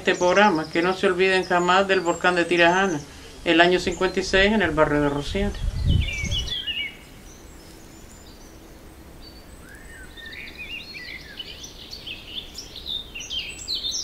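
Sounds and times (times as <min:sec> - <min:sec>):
faint background hiss: 0:00.0 - 0:14.0
small birds chirping: 0:00.0 - 0:14.0.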